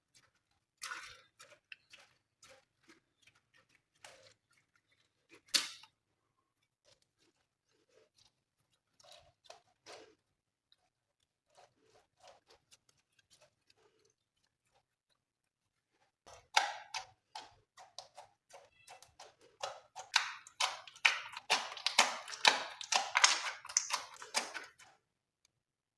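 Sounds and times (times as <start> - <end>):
slime squishing by hand: 0.0 - 25.1.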